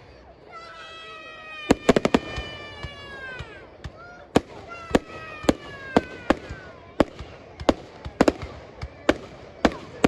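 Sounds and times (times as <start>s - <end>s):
fireworks bangs: 1.5s - 10.0s.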